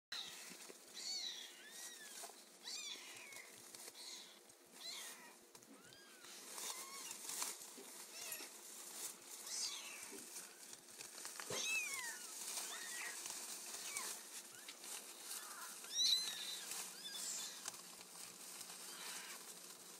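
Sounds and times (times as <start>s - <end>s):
kittens mewing: 0.1s - 8.6s, 9.3s - 10.8s, 11.4s - 17.8s, 18.7s - 19.6s.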